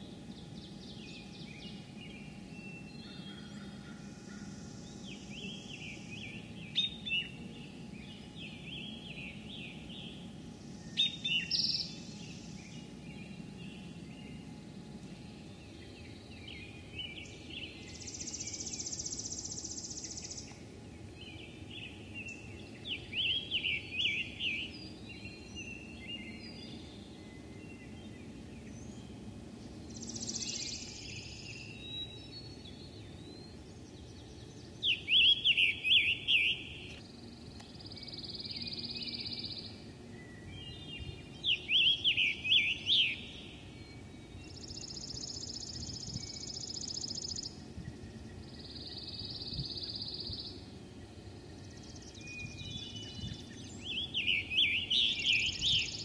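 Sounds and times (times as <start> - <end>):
songbirds singing trilled phrases: 0.0 - 56.0
bird chirps: 0.4 - 20.6, 29.8 - 56.0.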